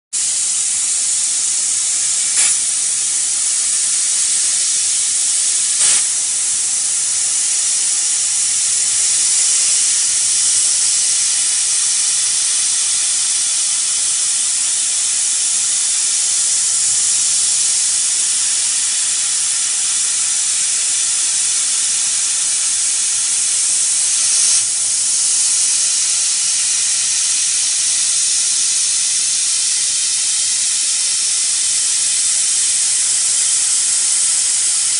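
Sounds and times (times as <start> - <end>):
high hiss of air assist: 0.2 - 34.9.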